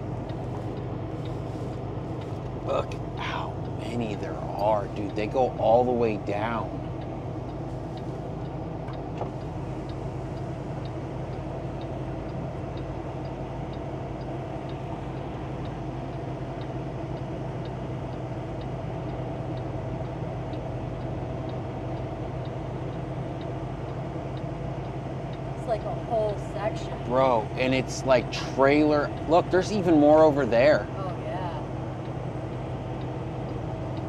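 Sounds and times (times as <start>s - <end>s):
light ticking: 0.0s - 31.0s, 31.6s - 34.0s
diesel truck engine running: 0.0s - 34.0s.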